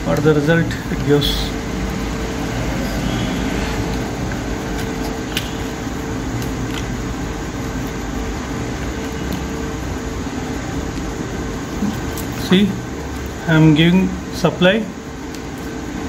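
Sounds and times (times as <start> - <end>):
fan whirring with hum: 0.0 - 16.0.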